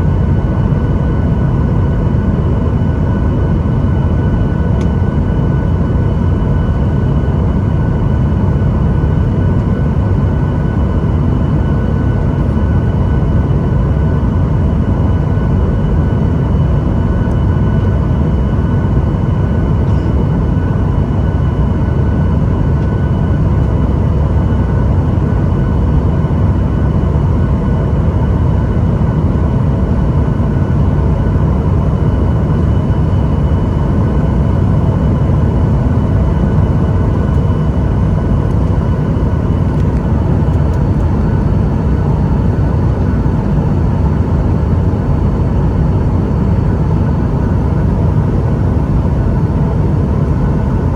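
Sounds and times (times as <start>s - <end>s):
jet engine cabin rumble: 0.0s - 50.9s
thin steady whines: 0.0s - 50.9s.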